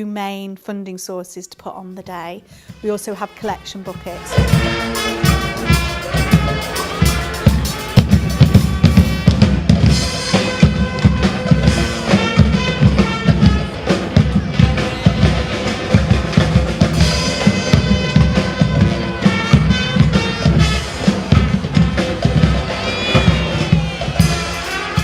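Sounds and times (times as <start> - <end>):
drum kit beat: 2.8 - 25.0
music with pitched instruments: 3.9 - 25.0.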